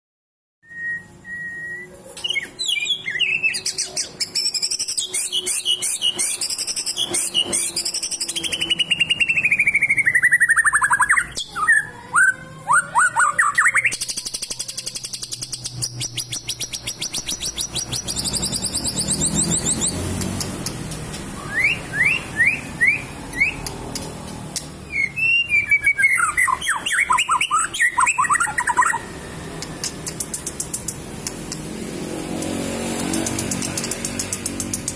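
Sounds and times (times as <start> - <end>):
songbird singing varied song: 0.7 - 31.4.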